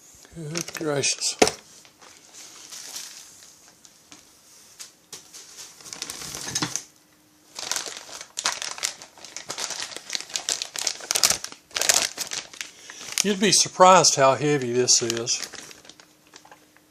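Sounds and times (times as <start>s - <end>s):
packaging crinkling and rustling: 0.4s - 4.2s, 5.2s - 6.9s, 7.5s - 16.6s.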